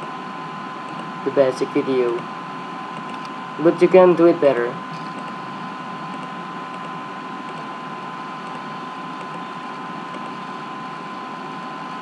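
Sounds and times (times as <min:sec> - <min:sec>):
thin whine: 0:00.0 - 0:12.0.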